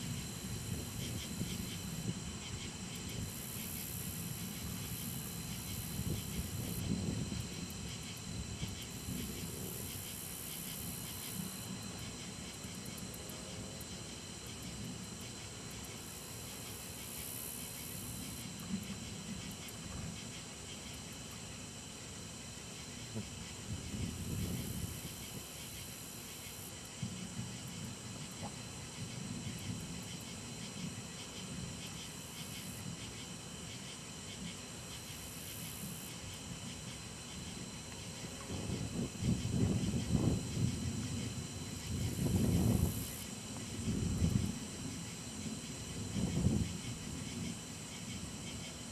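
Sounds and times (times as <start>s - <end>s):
insects chirping: 0.0s - 48.9s
steady hiss: 0.0s - 48.9s.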